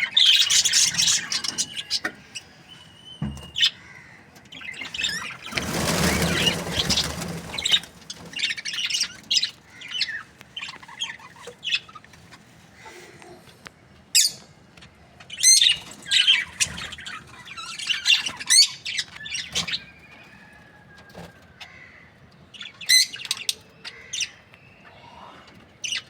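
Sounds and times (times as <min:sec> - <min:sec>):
budgerigars chirping and squawking: 0:00.0 - 0:13.0, 0:14.1 - 0:26.0.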